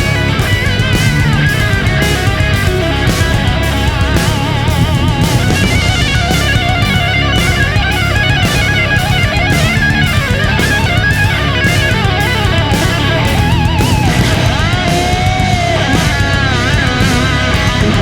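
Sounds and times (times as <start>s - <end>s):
distorted electric guitar: 0.0s - 18.0s
steady drum beat: 0.0s - 18.0s.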